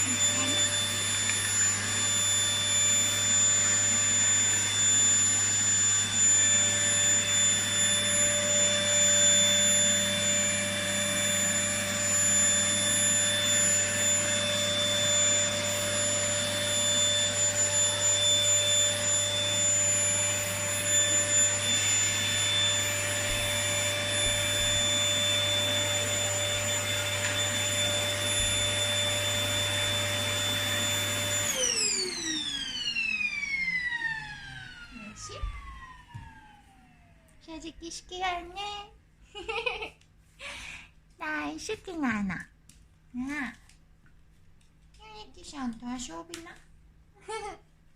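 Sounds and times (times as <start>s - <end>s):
vacuum cleaner whining: 0.0s - 38.8s.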